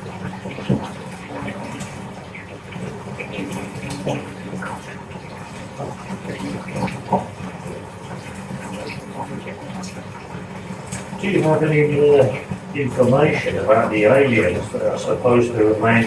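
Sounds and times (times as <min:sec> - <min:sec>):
water pouring into bathtub: 0:00.0 - 0:16.0.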